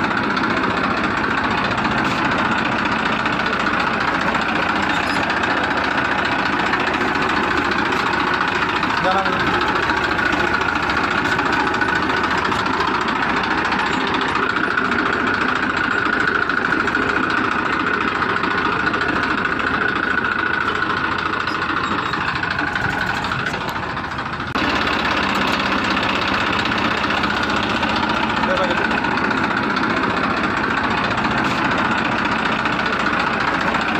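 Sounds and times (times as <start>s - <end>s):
engine idling with rapid chugging: 0.0s - 33.9s.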